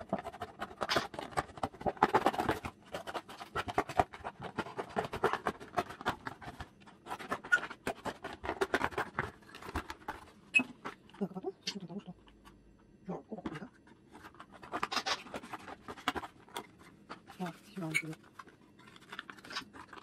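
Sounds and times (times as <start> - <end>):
scissors cutting cardboard: 0.0 - 11.0, 13.6 - 20.0.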